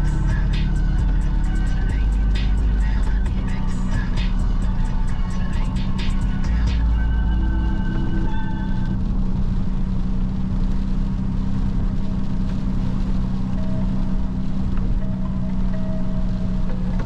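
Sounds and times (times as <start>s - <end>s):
low engine hum: 0.0s - 17.0s
tyres hissing on wet road: 0.0s - 17.0s.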